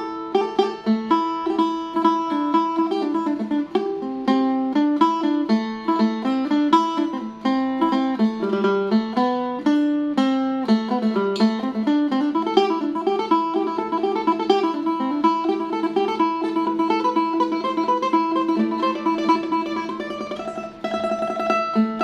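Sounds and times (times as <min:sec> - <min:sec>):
plucked lute melody: 0:00.0 - 0:22.0.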